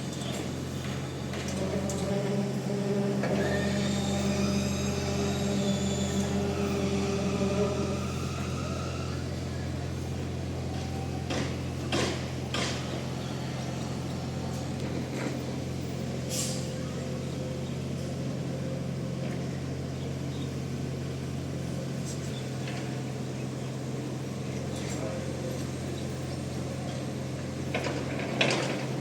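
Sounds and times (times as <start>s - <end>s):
construction machinery engine droning: 0.0s - 29.0s.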